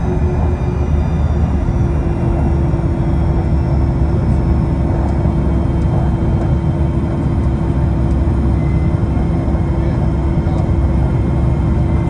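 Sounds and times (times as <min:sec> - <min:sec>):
constant hum: 0:00.0 - 0:12.0
jet cabin low rumble: 0:00.0 - 0:12.0.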